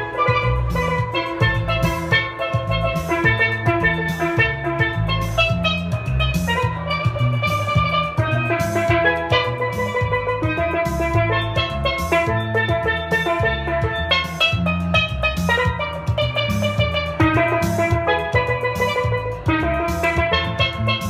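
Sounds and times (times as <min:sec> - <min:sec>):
electric bass line: 0:00.0 - 0:21.0
steady beat: 0:00.0 - 0:21.0
steelpan melody: 0:00.0 - 0:21.0.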